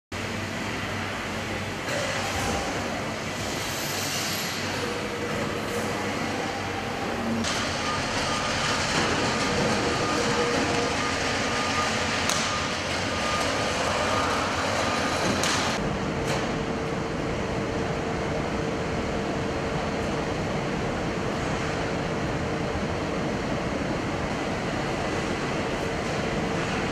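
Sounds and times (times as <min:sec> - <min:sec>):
factory machinery noise: 0:00.1 - 0:26.9.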